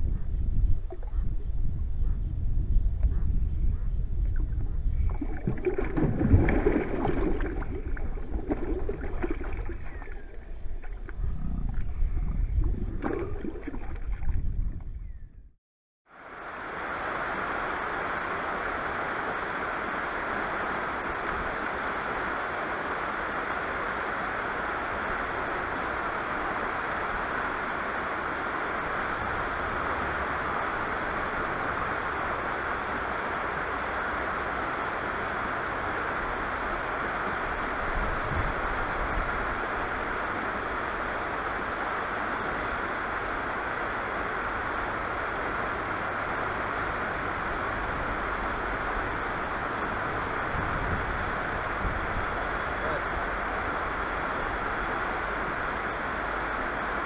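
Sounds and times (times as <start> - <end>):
wind rumble on microphone: 0.0 - 15.6, 16.6 - 57.0
river water rushing over stones: 5.2 - 10.4, 16.2 - 57.0.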